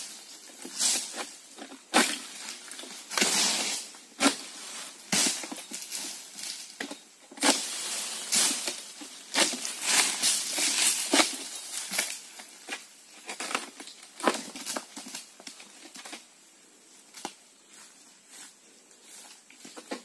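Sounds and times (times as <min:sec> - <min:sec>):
sickle cracking palm fronds: 0:00.0 - 0:16.2.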